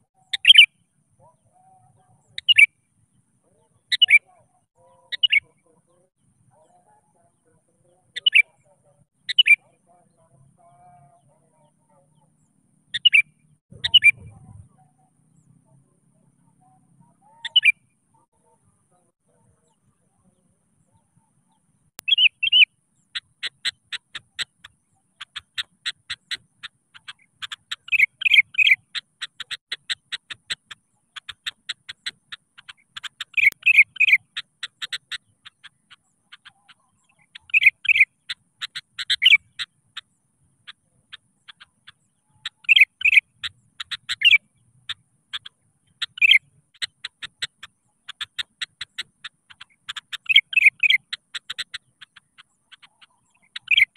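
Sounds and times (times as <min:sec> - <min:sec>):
bulbul singing: 0:00.0 - 0:53.9.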